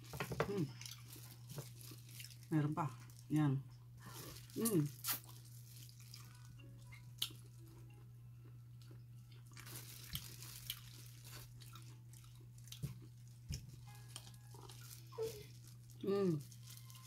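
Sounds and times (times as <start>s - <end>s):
faint steady hum: 0.0s - 17.0s
person chewing: 0.3s - 2.5s, 4.0s - 17.0s.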